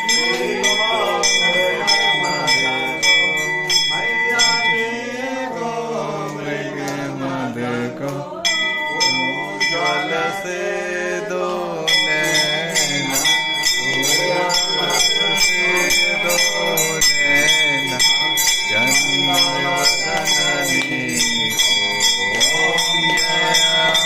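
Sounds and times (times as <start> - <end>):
brass bell ringing: 0.0 - 6.7, 8.4 - 11.0, 11.9 - 24.0
group of people singing: 0.0 - 24.0.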